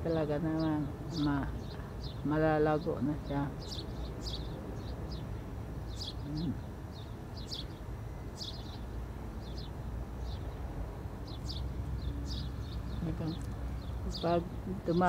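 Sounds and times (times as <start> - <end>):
small bird chirping: 0.4 - 15.0.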